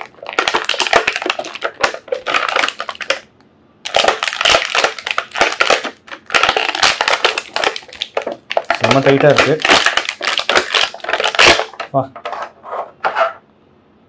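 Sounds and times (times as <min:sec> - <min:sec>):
plastic packaging crackling: 0:00.0 - 0:12.5.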